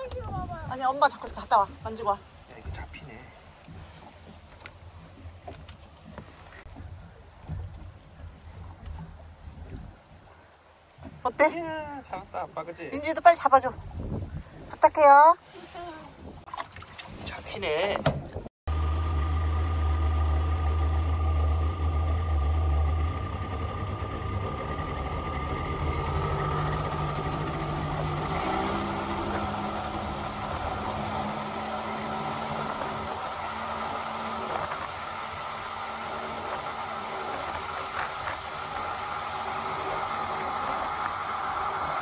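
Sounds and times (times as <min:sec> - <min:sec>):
motorboat engine running: 0:00.0 - 0:11.3, 0:18.2 - 0:42.0
water noise: 0:00.0 - 0:42.0
wind: 0:00.0 - 0:42.0.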